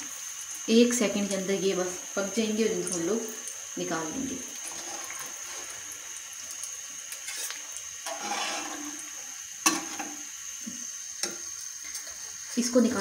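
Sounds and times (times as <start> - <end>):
deep-frying sizzle: 0.0 - 13.0.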